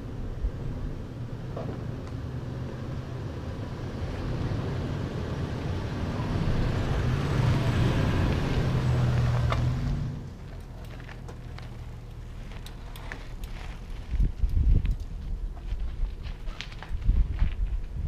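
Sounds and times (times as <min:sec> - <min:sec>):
car engine crawling: 0:00.0 - 0:15.7.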